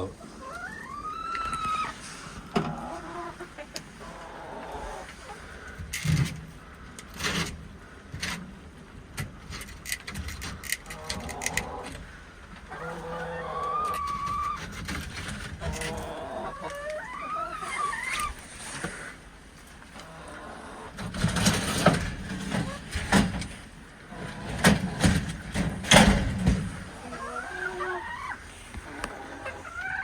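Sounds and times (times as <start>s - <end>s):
hens calling: 0.0s - 5.8s, 10.8s - 23.3s, 24.0s - 30.0s.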